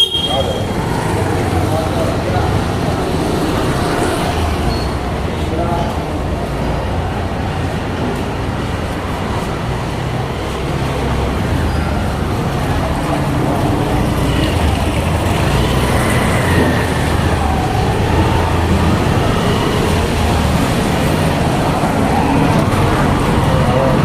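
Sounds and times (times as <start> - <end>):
low traffic rumble: 0.0 - 24.0.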